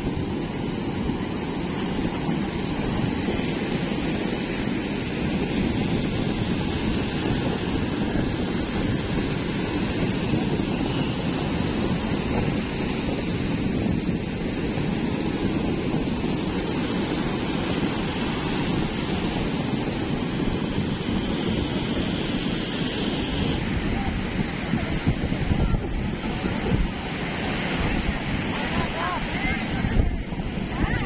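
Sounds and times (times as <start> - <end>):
waves breaking on beach: 0.0 - 31.0
wind rumbling on microphone: 0.0 - 31.0.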